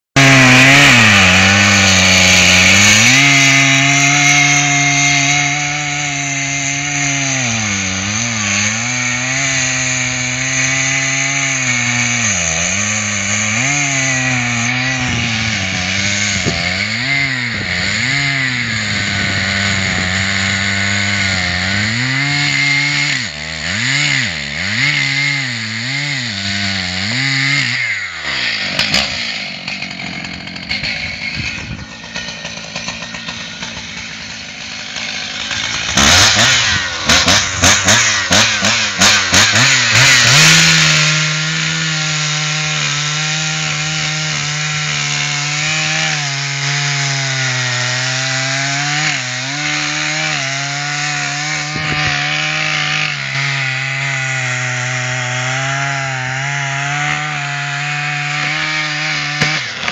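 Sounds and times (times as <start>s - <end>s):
chainsaw cutting into tree trunk: 0.2s - 59.9s.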